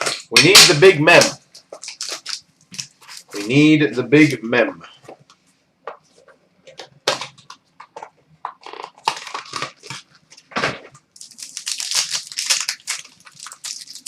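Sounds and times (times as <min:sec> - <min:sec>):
packaging crinkling and rustling: 0:01.1 - 0:04.4, 0:06.0 - 0:14.0.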